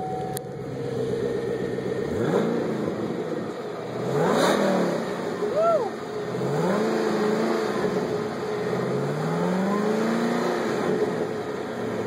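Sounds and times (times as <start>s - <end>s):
car engine revving: 0.5s - 12.0s.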